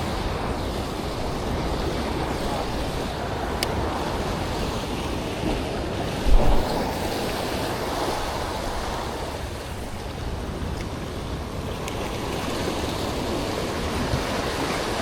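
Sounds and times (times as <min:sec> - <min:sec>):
waves and surf washing: 0:00.0 - 0:15.0
wind buffeting microphone: 0:00.0 - 0:15.0.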